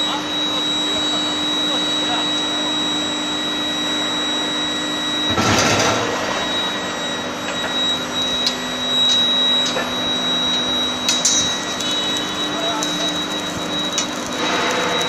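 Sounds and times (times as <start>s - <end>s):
factory machinery humming: 0.0s - 15.0s
high-pitched machine whine: 0.0s - 15.0s.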